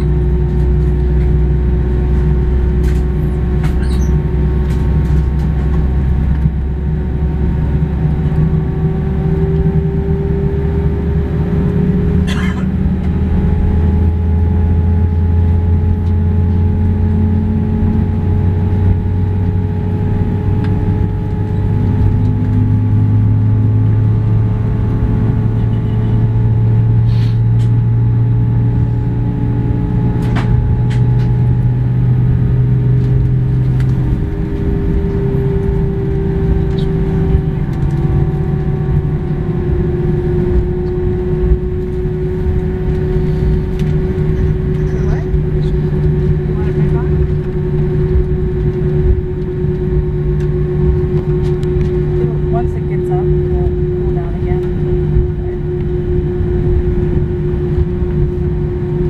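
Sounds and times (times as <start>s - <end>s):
jet engines droning: 0.0s - 59.0s
steady higher hum: 0.0s - 59.0s.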